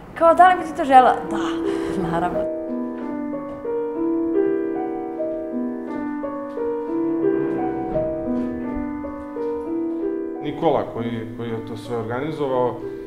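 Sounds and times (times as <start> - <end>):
slow piano playing: 0.0 - 13.0.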